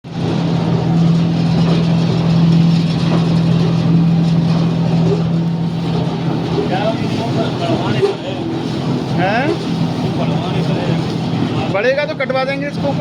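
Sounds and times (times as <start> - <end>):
machine motor humming: 0.1 - 13.0.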